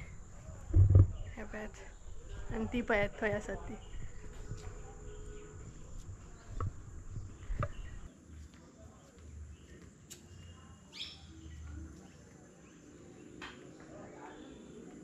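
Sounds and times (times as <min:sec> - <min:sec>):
bird chirps: 0:01.1 - 0:08.5, 0:09.1 - 0:15.0.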